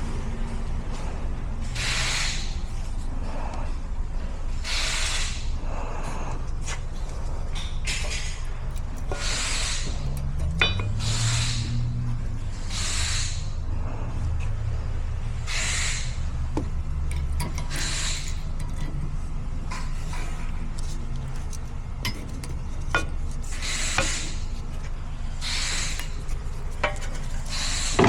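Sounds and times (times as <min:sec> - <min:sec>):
low vehicle rumble: 0:00.0 - 0:28.0
brakes scraping hiss: 0:01.6 - 0:03.5, 0:04.5 - 0:14.1, 0:15.2 - 0:16.6, 0:17.2 - 0:28.0.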